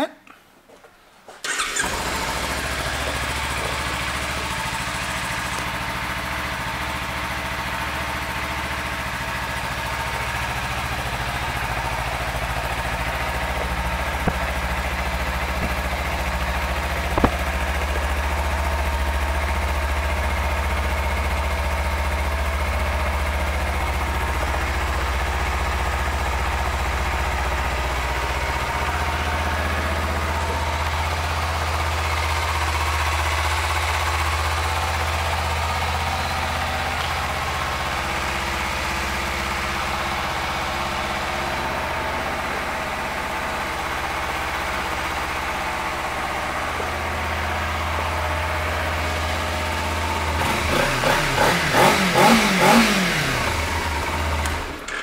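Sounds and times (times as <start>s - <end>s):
motorcycle engine idling: 1.4s - 55.0s.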